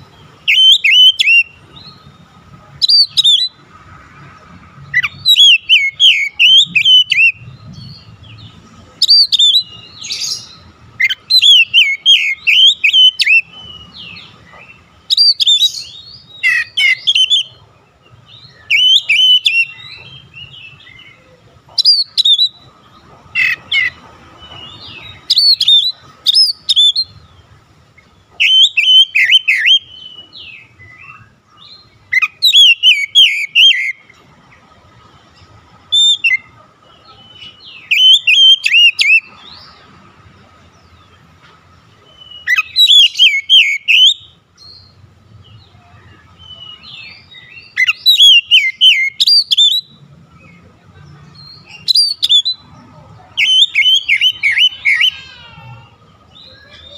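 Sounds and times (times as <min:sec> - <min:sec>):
bird singing whistles and warbles: 0:00.0 - 0:03.6, 0:04.9 - 0:17.6, 0:18.2 - 0:27.4, 0:28.0 - 0:34.2, 0:35.9 - 0:39.8, 0:41.9 - 0:55.5.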